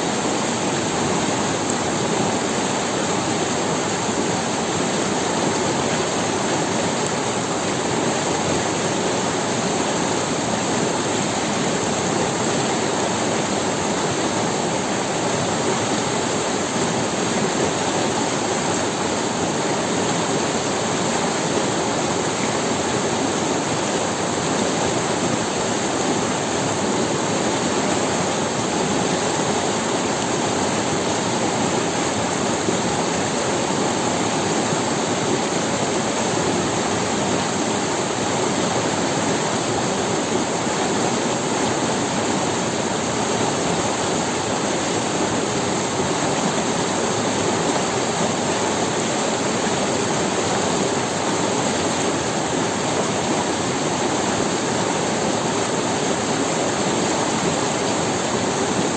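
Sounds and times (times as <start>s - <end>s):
river rushing over stones: 0.0s - 58.9s.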